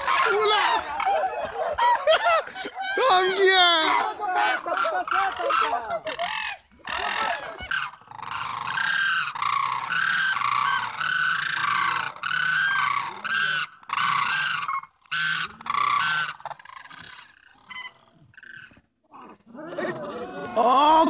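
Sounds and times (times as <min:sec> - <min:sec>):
cranes calling: 0:00.0 - 0:20.5.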